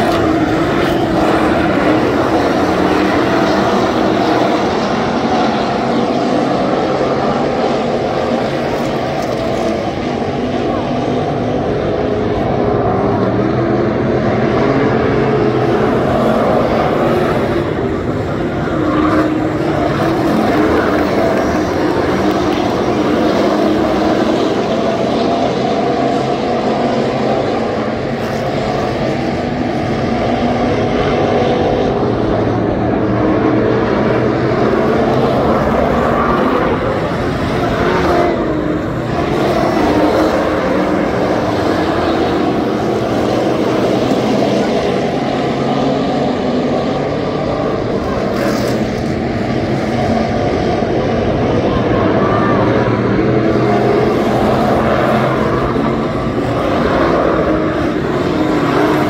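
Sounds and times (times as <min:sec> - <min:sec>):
stock car engines racing: 0:00.0 - 0:59.0.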